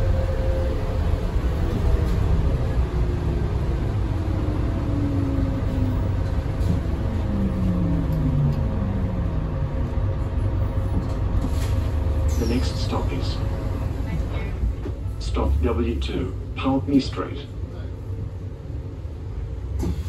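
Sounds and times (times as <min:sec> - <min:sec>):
bus drivetrain rumble and whine: 0:00.0 - 0:20.0.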